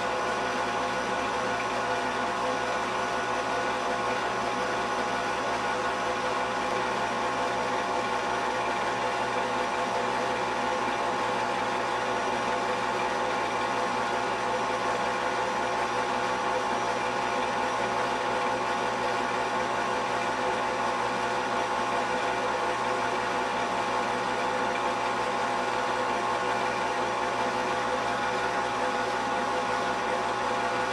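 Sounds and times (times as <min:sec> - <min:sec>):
mechanical hum and whir: 0:00.0 - 0:30.9.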